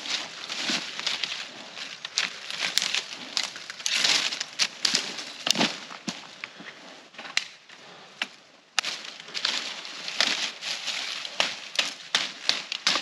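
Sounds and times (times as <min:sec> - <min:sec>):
dry leaves rustling: 0:00.0 - 0:06.4, 0:08.8 - 0:13.0
twigs cracking: 0:00.0 - 0:06.6, 0:07.2 - 0:13.0.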